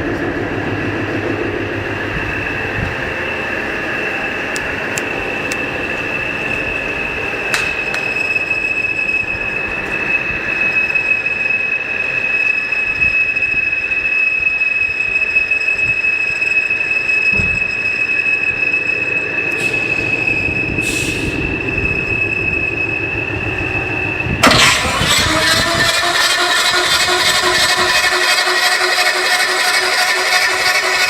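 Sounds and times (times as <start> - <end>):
engine mechanism whining and rumbling: 0.0 - 31.0.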